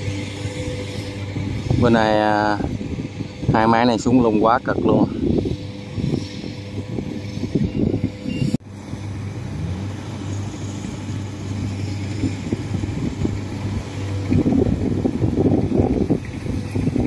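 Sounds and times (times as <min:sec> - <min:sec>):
harvester engine running: 0:00.0 - 0:17.0
wind buffeting microphone: 0:00.0 - 0:17.0.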